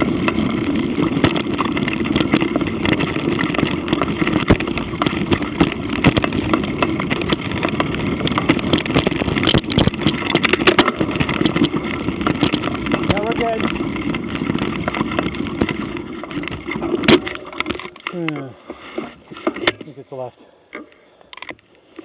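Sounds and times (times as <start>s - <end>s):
bike rattling over bumps: 0.0s - 22.0s
bike tyre and wind noise: 0.0s - 22.0s.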